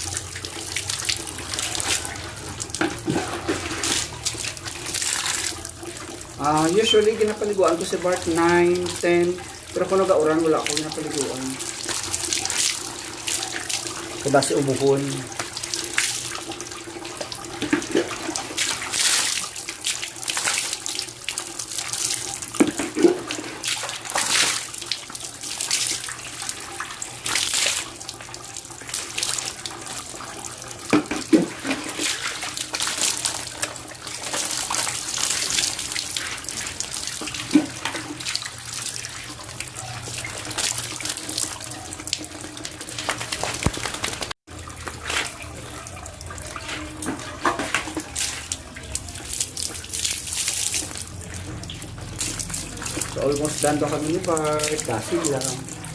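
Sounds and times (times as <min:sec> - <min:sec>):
water running and splashing: 0:00.0 - 0:55.9.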